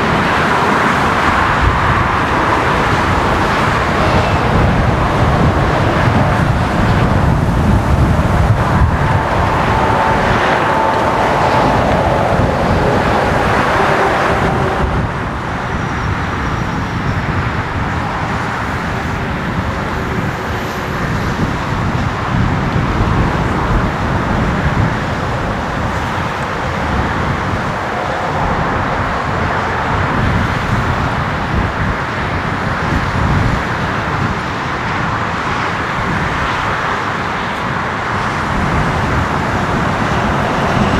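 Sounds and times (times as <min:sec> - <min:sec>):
aircraft noise roaring: 0:00.0 - 0:40.9
road traffic: 0:00.0 - 0:40.9.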